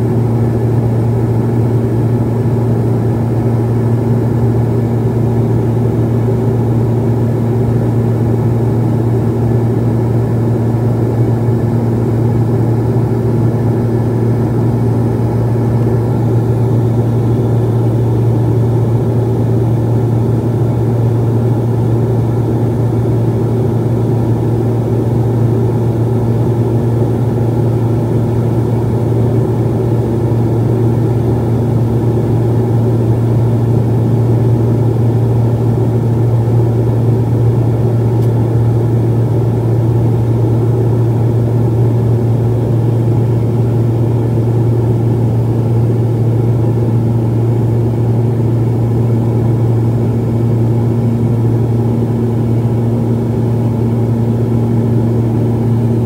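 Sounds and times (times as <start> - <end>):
low propeller tone: 0.0 - 56.0
turboprop engine drone: 0.0 - 56.0.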